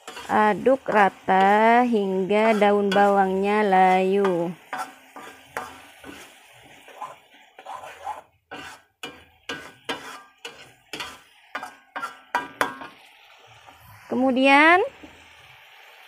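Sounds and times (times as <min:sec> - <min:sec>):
ladle scraping a wok: 0:00.0 - 0:13.0.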